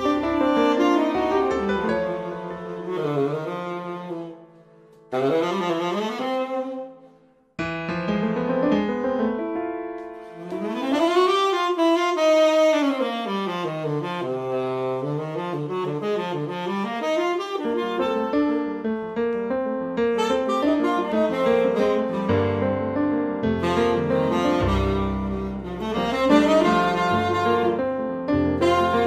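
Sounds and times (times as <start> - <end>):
jazz keyboard: 0.0 - 6.9, 7.6 - 29.0
saxophone melody: 0.0 - 7.3, 10.1 - 29.0.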